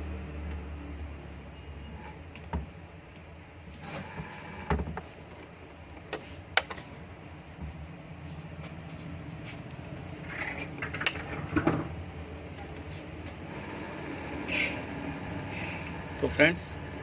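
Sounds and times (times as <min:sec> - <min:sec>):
fan motor humming: 0:00.0 - 0:17.0.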